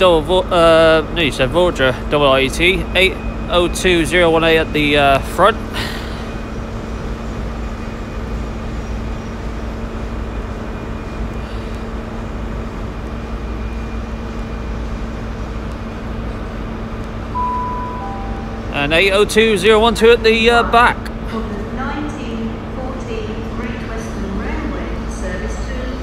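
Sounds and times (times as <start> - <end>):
train diesel engines humming: 0.0 - 26.0.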